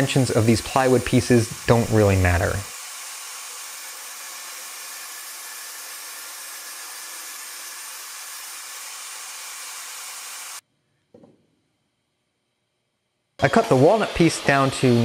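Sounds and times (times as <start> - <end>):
table saw whirring: 0.0 - 10.6, 13.4 - 15.0.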